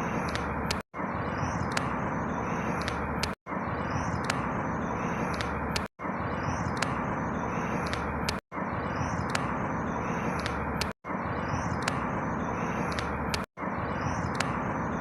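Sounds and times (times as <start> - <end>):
distant traffic rush: 0.0 - 15.0.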